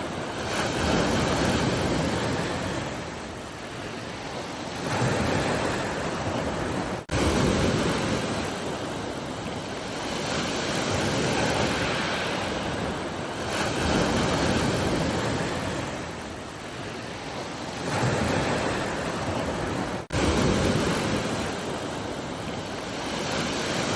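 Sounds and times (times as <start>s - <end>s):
ocean waves breaking: 0.0s - 23.9s.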